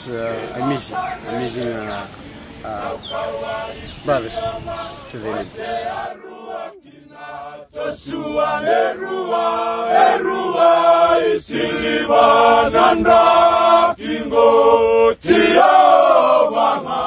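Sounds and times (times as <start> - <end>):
male choir chanting in harmony: 0.0 - 17.0.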